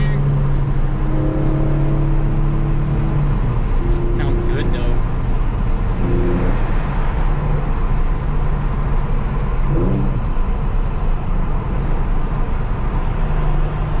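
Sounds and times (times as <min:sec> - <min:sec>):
car engine cruising: 0:00.0 - 0:14.0
road noise: 0:00.0 - 0:14.0.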